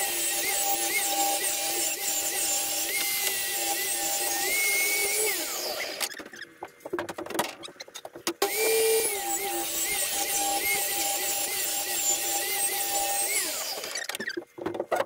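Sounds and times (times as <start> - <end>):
table saw ripping timber: 0.0 - 6.3, 8.4 - 15.0.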